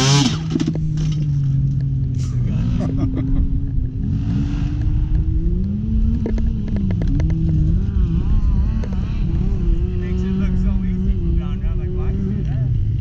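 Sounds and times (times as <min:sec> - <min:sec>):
dirt bike engine at low revs: 0:00.0 - 0:13.0.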